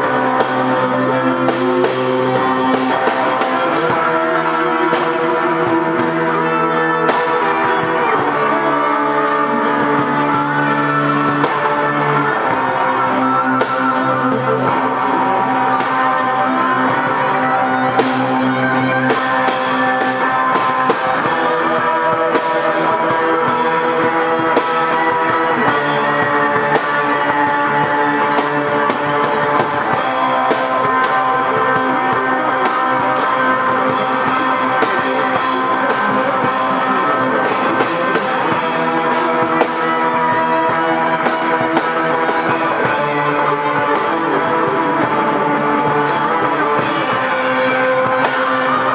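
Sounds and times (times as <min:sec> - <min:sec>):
live instrumental rock music: 0:00.0 - 0:48.9.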